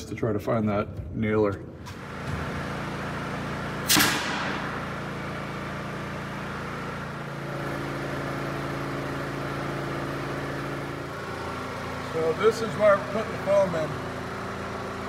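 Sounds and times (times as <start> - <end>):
motor humming: 1.8 - 15.0.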